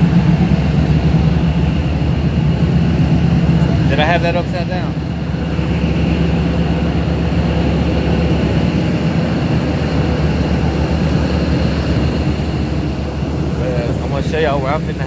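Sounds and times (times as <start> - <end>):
boat diesel engines droning: 0.0 - 15.0.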